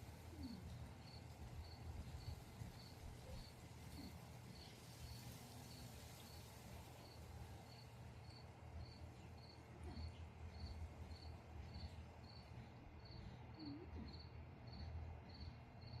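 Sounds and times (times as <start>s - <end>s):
low steady hum: 0.0s - 16.0s
cricket chirping: 0.1s - 16.0s.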